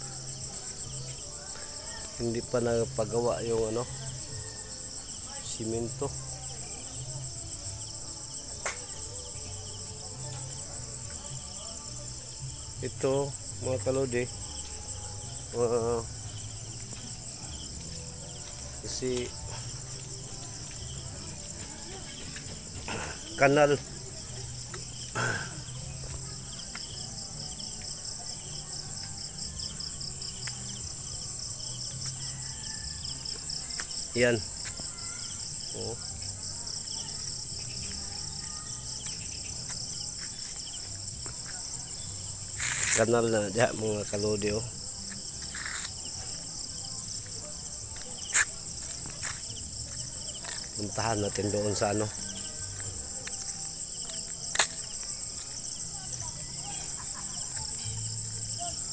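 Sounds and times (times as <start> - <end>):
crickets trilling: 0.0 - 58.9
insects chirping trills: 0.0 - 58.9.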